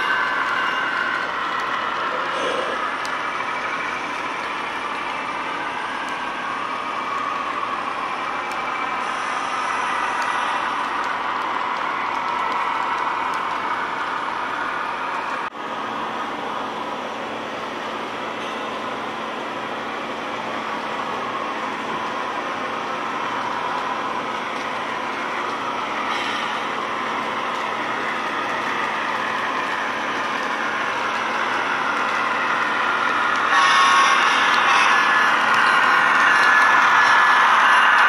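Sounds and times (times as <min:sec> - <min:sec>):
model train rolling on track: 0:00.0 - 0:38.0.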